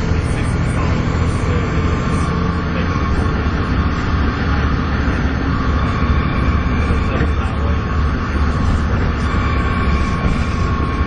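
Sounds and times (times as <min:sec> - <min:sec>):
diesel bus engine drone: 0:00.0 - 0:11.0
turbo whine: 0:00.0 - 0:11.0.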